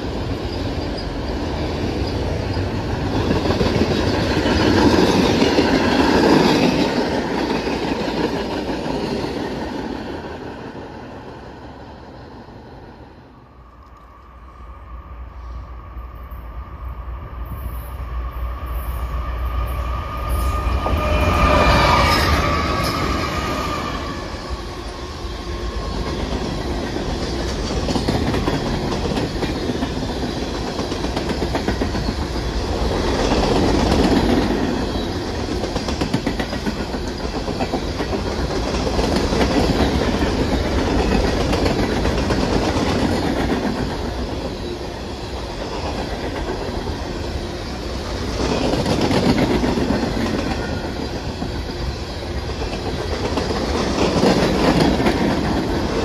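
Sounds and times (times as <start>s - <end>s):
train wheels clacking on rails: 0.0s - 10.7s, 20.2s - 56.0s.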